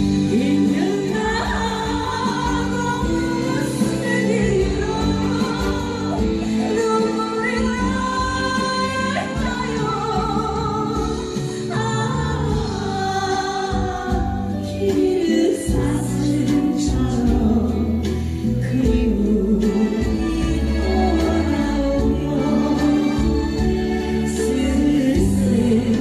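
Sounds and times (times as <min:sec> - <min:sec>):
instrumental accompaniment with bass: 0:00.0 - 0:26.0
woman singing slow song: 0:00.0 - 0:26.0.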